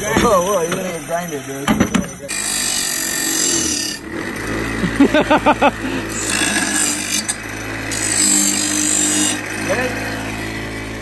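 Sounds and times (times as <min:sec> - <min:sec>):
bench grinder humming: 0:00.0 - 0:11.0
high grinding of metal edge: 0:00.0 - 0:11.0.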